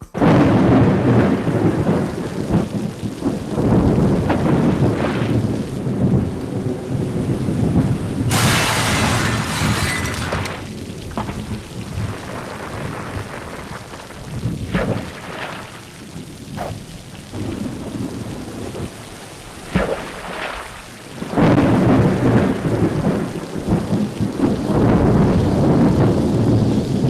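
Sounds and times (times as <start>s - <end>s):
heavy rain: 0.0s - 27.0s
rumbling thunder: 0.0s - 27.0s.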